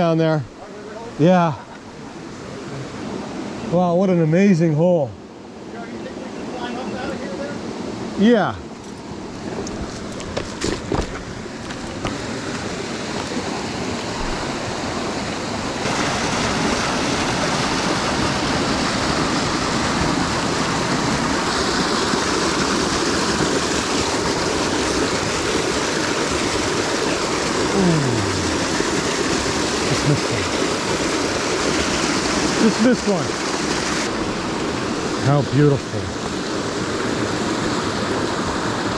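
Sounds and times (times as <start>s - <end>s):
stream rushing over rocks: 5.4s - 38.9s.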